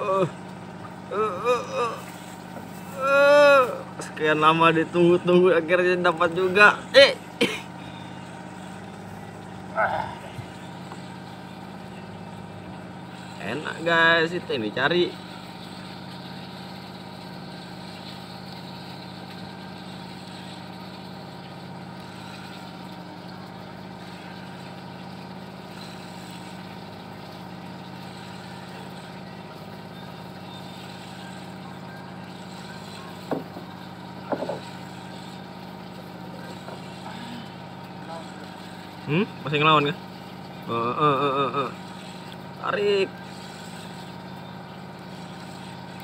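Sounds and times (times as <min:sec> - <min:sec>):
engine idling hum: 0:00.0 - 0:46.0.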